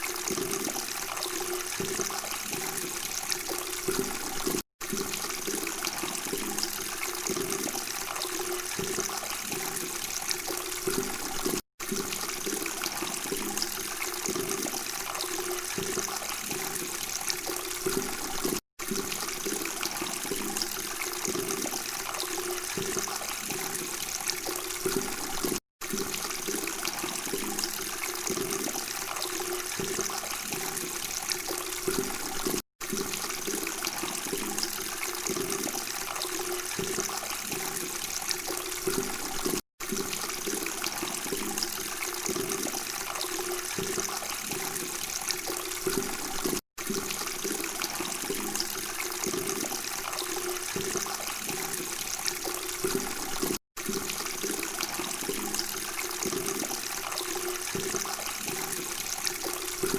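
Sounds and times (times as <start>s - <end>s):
water burbling and trickling: 0.0s - 59.9s.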